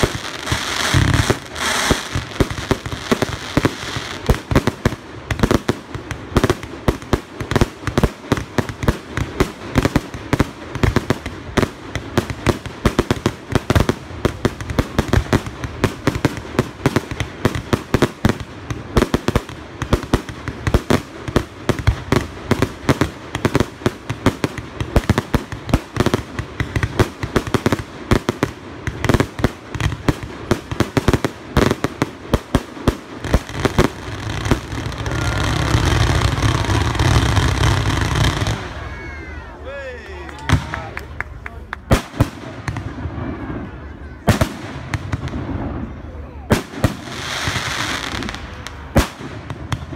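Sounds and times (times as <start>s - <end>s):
fireworks bangs and crackles: 0.0s - 39.5s, 40.1s - 49.9s.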